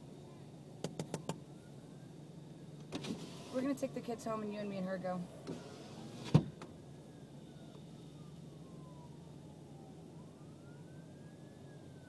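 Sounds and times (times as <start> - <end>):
low hum inside car: 0.0 - 10.4
faint siren wailing: 0.0 - 12.0.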